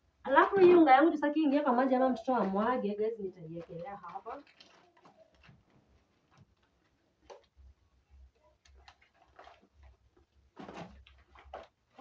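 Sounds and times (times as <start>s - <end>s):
grocery packets clicking and knocking: 2.2s - 12.0s.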